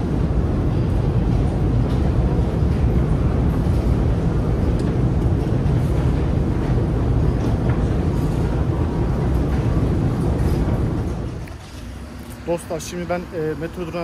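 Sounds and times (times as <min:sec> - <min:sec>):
escalator machinery rumbling: 0:00.0 - 0:14.0.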